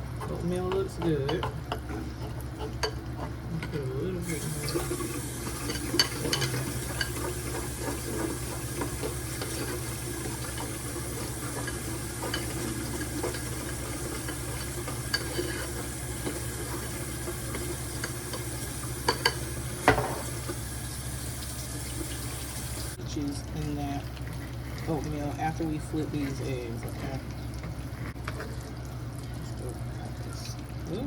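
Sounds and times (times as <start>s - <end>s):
eggs sizzling in a pan: 0.0s - 30.8s.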